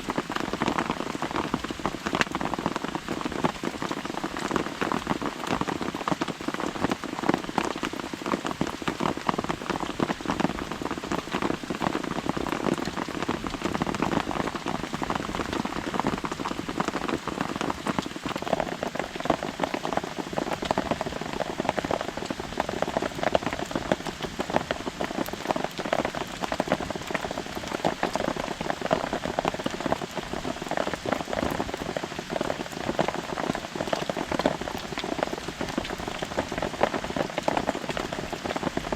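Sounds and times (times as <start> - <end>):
rain pattering on a tarp: 0.0 - 38.9.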